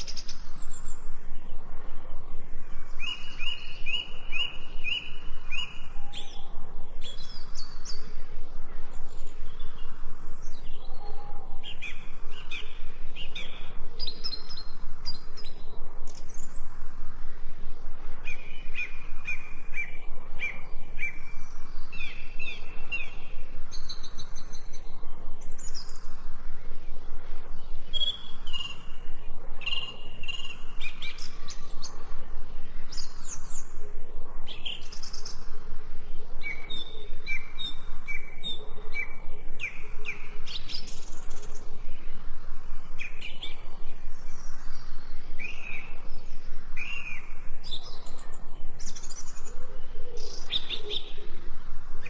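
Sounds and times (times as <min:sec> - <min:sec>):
songbirds chirping: 0:00.0 - 0:52.0
steady low hum: 0:00.0 - 0:52.0.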